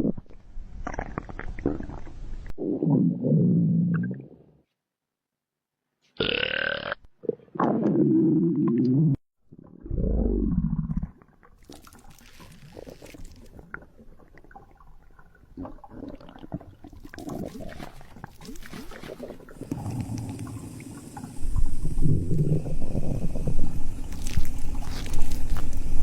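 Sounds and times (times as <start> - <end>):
wet stomach gurgling: 0.0 - 4.3, 6.2 - 26.0.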